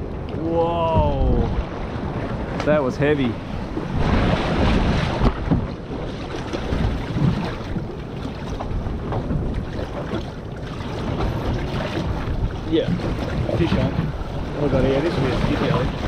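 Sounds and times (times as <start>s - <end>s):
wind buffeting microphone: 0.0s - 16.0s
sea sloshing against boat hull: 1.0s - 16.0s.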